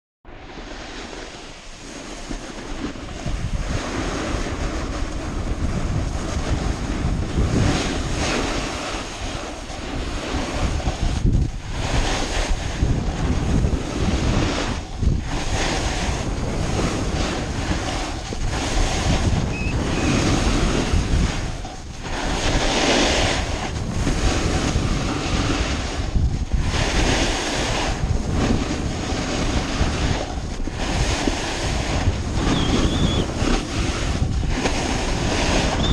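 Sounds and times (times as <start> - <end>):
wind buffeting microphone: 0.3 - 35.9
snowboard scraping over snow: 0.4 - 35.9.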